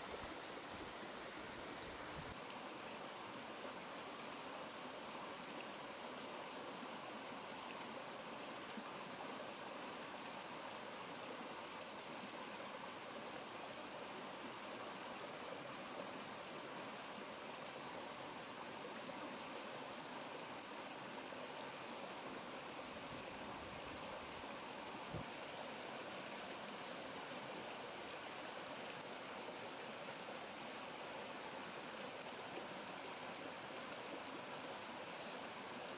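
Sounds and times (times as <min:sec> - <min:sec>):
flowing stream rushing: 0:00.0 - 0:35.9.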